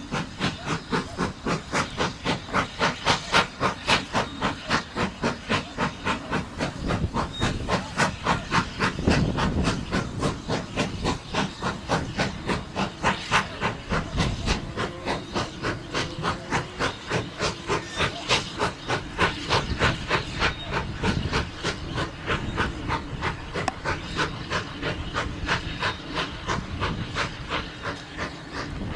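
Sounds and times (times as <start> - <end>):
steam locomotive chuffing: 0.0 - 28.9.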